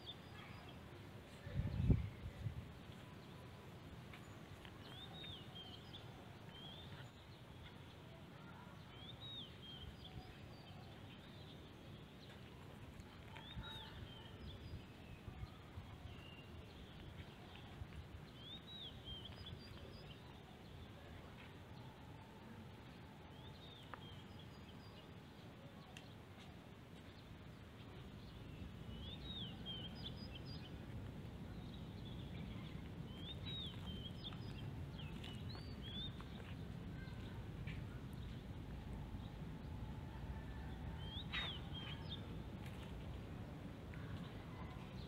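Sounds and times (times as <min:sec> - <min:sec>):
low outdoor rumble: 0:00.0 - 0:45.0
small birds chirping: 0:00.0 - 0:45.0.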